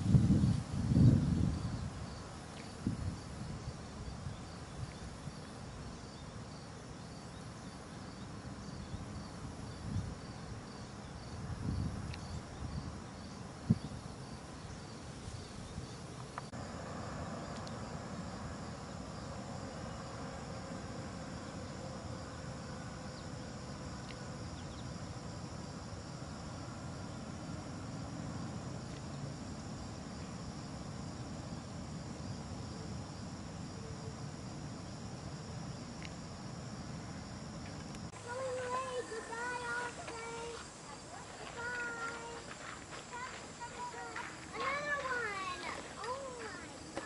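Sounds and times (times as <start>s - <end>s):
faint steady hum: 0.0s - 47.0s
insects chirping: 0.0s - 47.0s.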